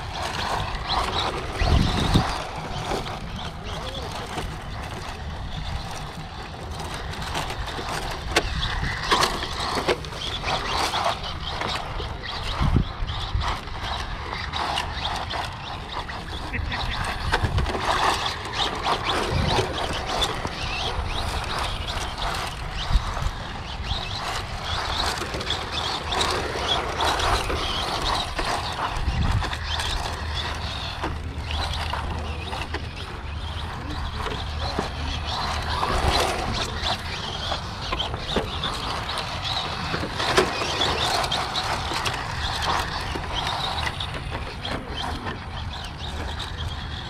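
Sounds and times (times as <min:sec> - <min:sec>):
indistinct voices chattering: 0:00.0 - 0:47.0
steady low hum: 0:00.0 - 0:47.0.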